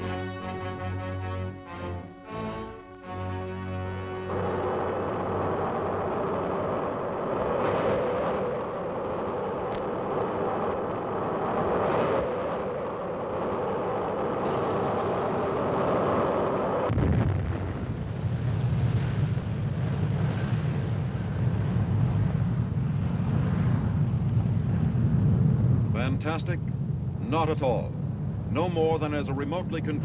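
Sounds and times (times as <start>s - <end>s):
deep low rumbling blast: 0.0s - 30.0s
rocket roar: 0.0s - 30.0s.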